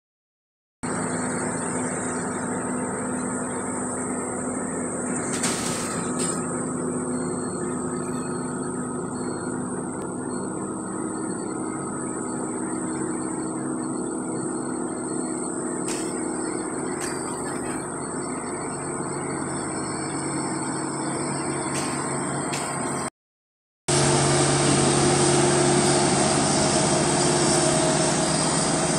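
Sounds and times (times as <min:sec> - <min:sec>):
diesel engine droning: 0:00.8 - 0:23.1, 0:23.9 - 0:28.9.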